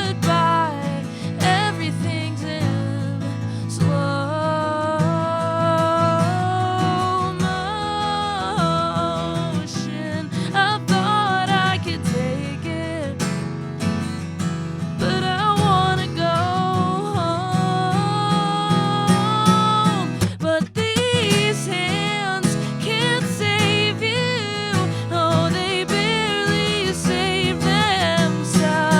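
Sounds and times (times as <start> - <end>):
strummed acoustic guitar: 0.0 - 28.9.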